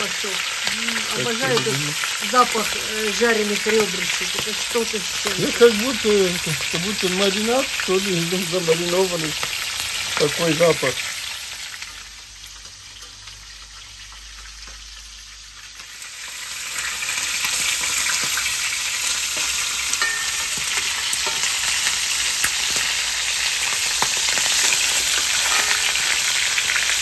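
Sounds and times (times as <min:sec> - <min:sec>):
meat sizzling in a pan: 0:00.0 - 0:27.0.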